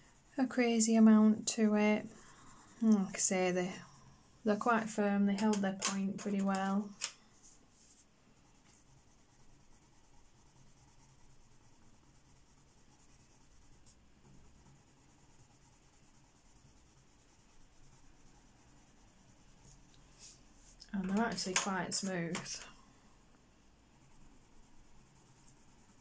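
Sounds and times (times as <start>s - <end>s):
pencil scratching on paper: 0.0s - 22.8s, 23.9s - 26.0s.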